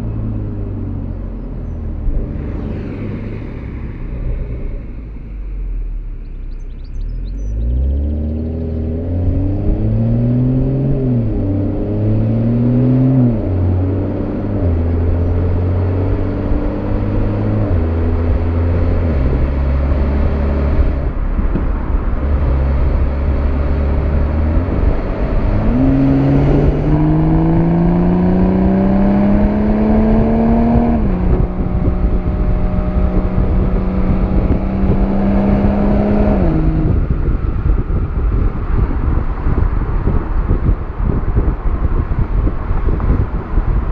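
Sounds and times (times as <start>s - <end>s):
car exhaust revving: 0.0s - 43.9s.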